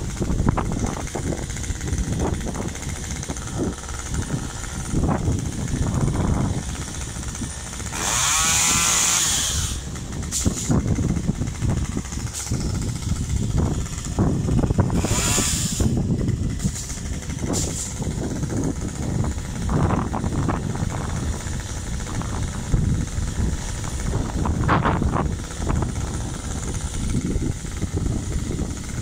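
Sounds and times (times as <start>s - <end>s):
chainsaw revving: 0.0s - 29.0s
low engine drone: 0.0s - 29.0s.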